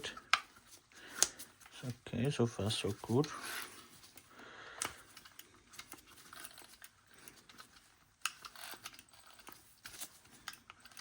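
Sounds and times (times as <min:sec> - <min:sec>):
handling clicks and rubbing: 0:00.0 - 0:11.0.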